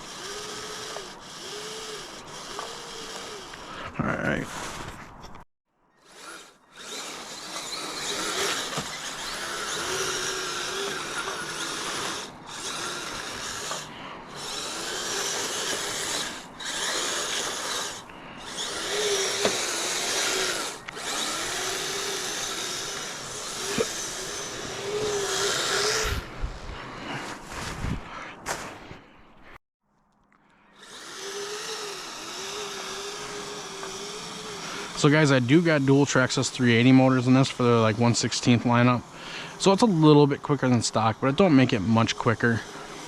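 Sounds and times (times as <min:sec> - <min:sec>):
electric motors whining: 0:00.0 - 0:05.1, 0:06.0 - 0:27.2, 0:30.7 - 0:43.0.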